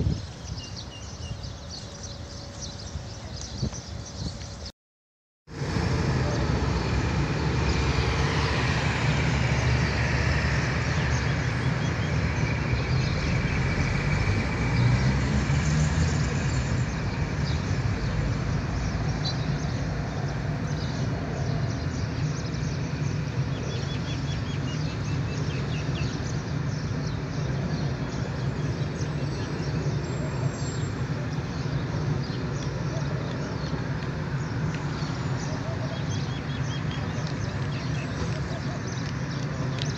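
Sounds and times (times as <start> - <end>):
rumble of cars on road: 0.0 - 4.7, 5.5 - 39.9.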